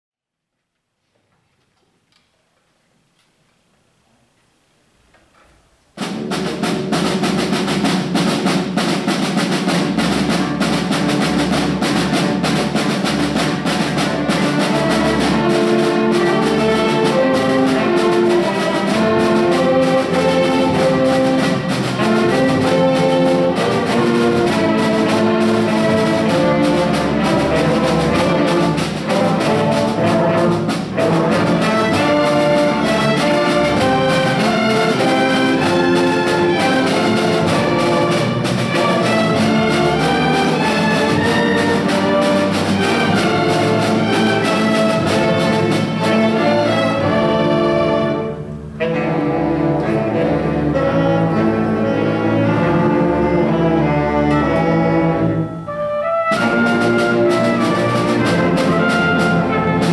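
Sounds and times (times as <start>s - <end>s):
orchestra playing: 5.9s - 59.9s.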